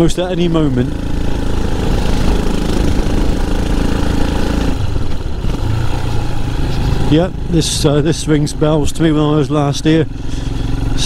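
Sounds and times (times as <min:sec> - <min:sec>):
motorcycle engine running: 0:00.0 - 0:11.0
road noise: 0:00.0 - 0:11.0
wind: 0:00.0 - 0:11.0.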